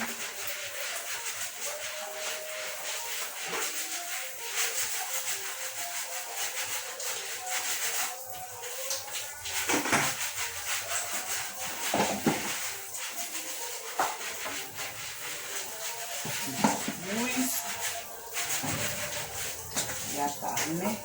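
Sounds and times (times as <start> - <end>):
hot water pouring: 0.0 - 21.0.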